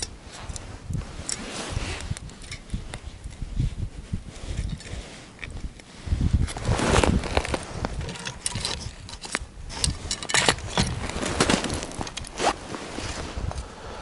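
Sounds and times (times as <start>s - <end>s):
rustling and scraping: 0.0s - 13.7s.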